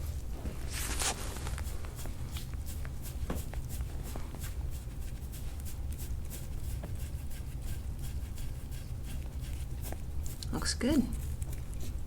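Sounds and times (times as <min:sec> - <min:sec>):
steady low hum: 0:00.0 - 0:12.0
scratchy rubs on skin: 0:00.6 - 0:12.0.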